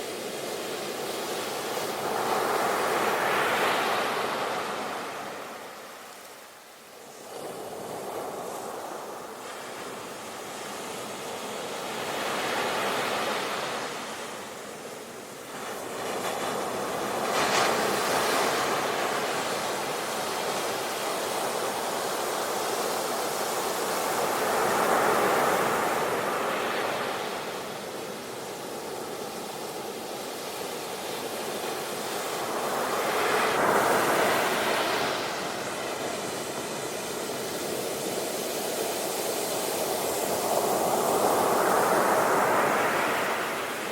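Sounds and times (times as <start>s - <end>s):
ocean waves breaking on shore: 0.0s - 43.9s.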